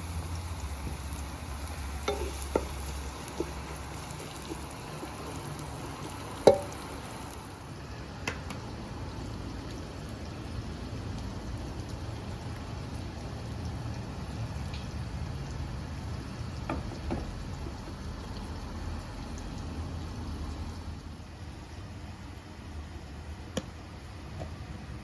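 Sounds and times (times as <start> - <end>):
cooking hiss: 0.0 - 25.0.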